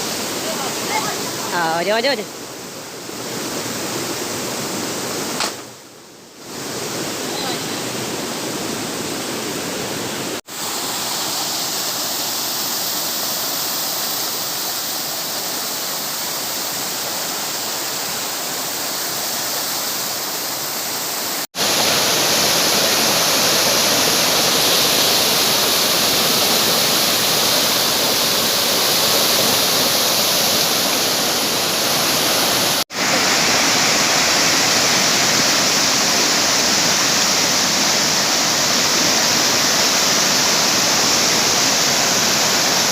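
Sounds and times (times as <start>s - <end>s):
waterfall rushing: 0.0s - 5.6s, 6.4s - 42.9s.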